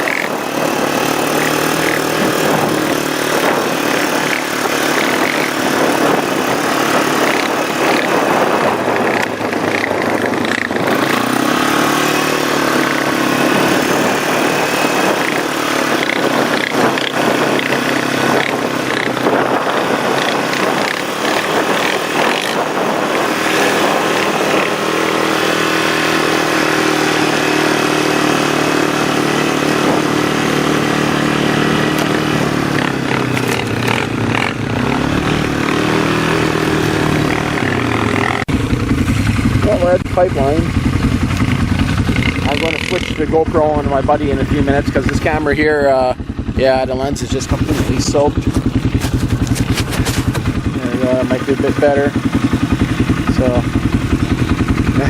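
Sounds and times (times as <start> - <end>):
atv engine running: 0.0 - 55.0
wind noise on microphone: 0.0 - 55.0.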